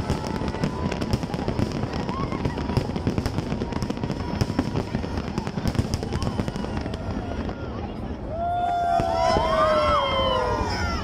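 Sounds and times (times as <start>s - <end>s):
fireworks crackling pops and bangs: 0.0s - 11.0s.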